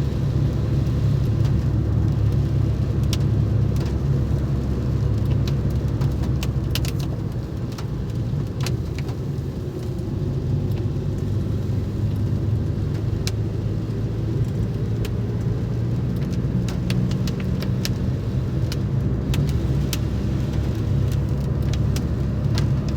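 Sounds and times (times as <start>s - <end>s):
car engine and road rumble: 0.0s - 22.9s.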